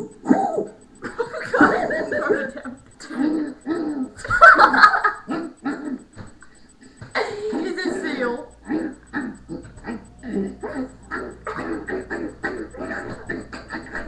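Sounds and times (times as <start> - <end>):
people laughing: 0.0 - 14.0.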